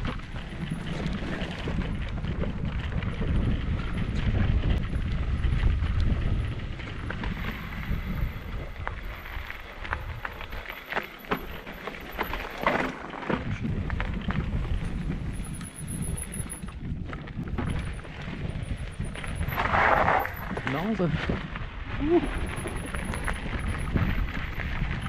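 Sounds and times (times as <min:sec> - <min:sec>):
wind rumble on microphone: 0:00.0 - 0:12.5, 0:13.3 - 0:25.0
bike rattling and clacking: 0:00.0 - 0:25.0
bike tyres crunching over stones: 0:00.0 - 0:25.0.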